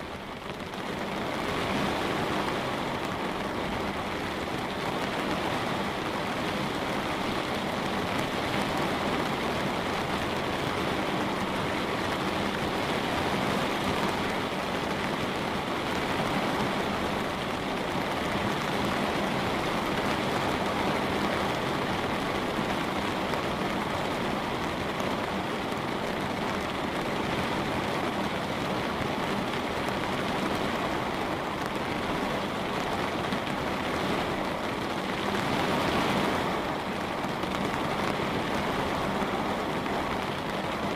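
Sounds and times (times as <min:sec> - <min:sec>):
rain on a window pane: 0:00.0 - 0:40.9.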